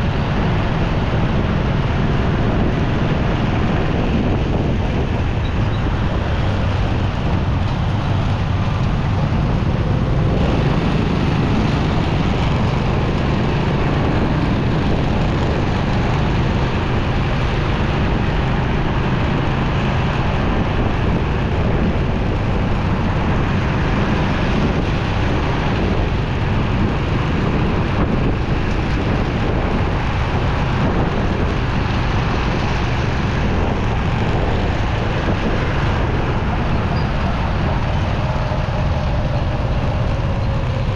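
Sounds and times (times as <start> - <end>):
motorcycle engine: 0.0 - 40.9
road noise: 0.0 - 40.9
wind on microphone: 0.0 - 40.9.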